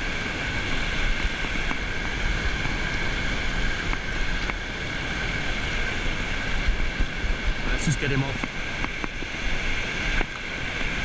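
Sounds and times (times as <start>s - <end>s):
small waves washing over sand: 0.0s - 11.0s
wind rumbling on microphone: 0.0s - 11.0s.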